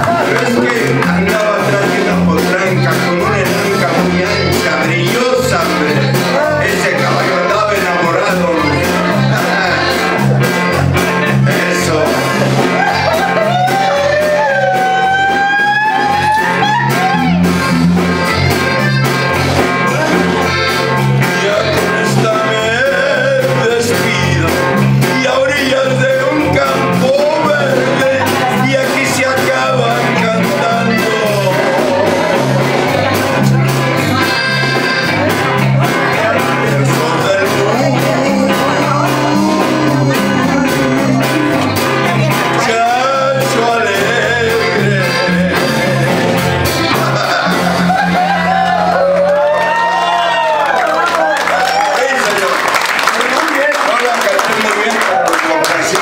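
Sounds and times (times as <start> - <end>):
man singing through microphone: 0.0 - 17.1, 19.8 - 35.1, 35.8 - 48.2, 54.7 - 56.0
amplified backing music: 0.0 - 56.0.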